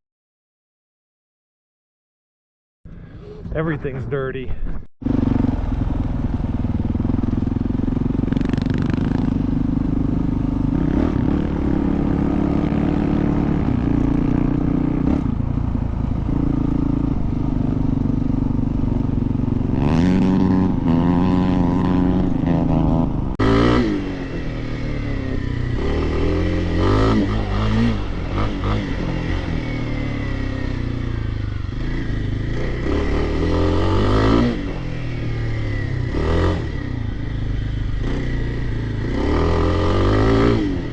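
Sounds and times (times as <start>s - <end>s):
dirt bike engine revving: 5.0s - 40.9s.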